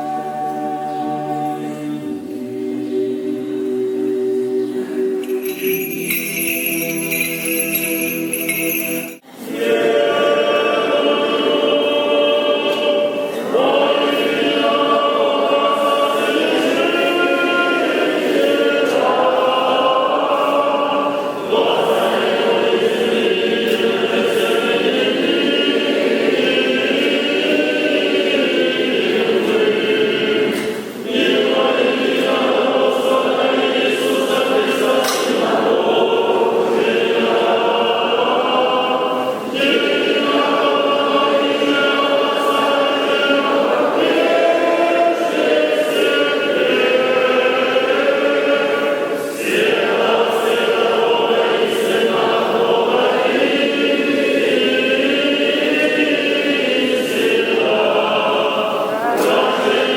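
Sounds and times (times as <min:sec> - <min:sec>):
choir chanting: 0:00.0 - 0:59.9.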